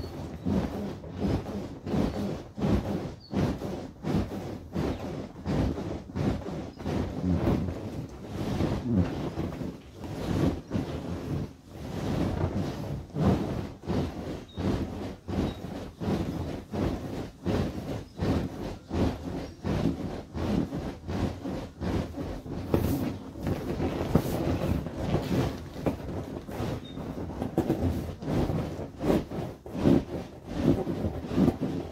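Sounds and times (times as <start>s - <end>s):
inflatable toy thumping: 0.0s - 31.9s.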